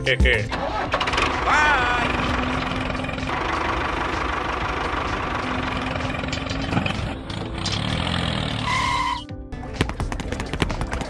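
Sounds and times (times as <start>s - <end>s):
engine idling: 0.2s - 9.2s.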